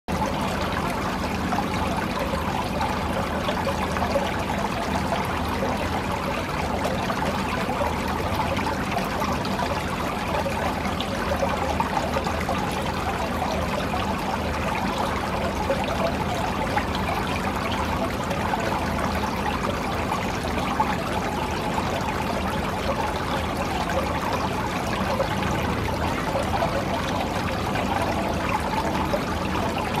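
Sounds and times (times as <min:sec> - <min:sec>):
fountain water splashing: 0:00.1 - 0:30.0.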